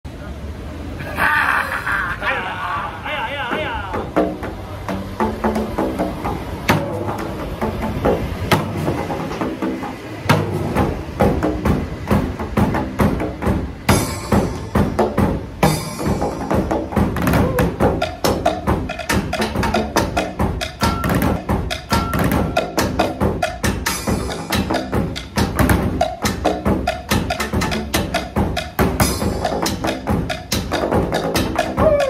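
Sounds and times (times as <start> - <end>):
drumming on plastic barrels: 3.5 - 32.0.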